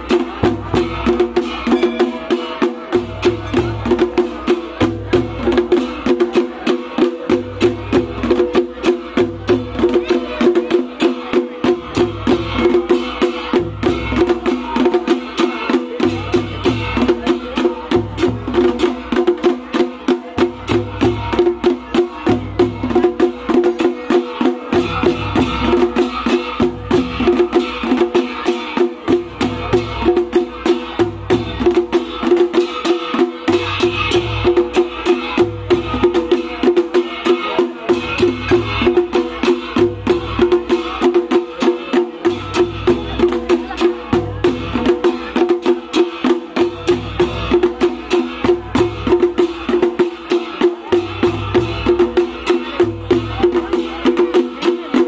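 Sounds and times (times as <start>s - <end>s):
fast sharp drum strikes: 0.0s - 55.0s.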